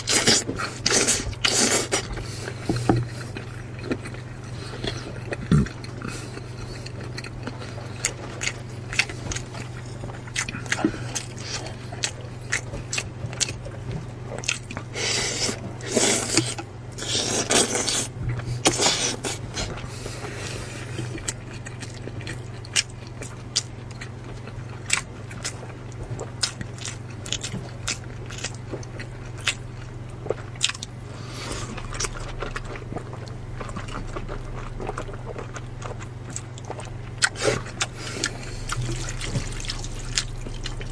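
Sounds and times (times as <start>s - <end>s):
chewing with mouth clicks: 0.0s - 40.9s
steady low hum: 0.0s - 40.9s.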